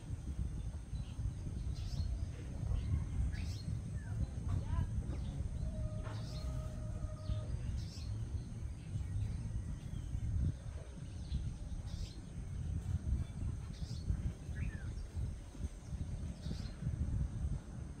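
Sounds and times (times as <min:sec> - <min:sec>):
steady low rumble: 0:00.0 - 0:18.0
small bird chirping: 0:00.3 - 0:17.0.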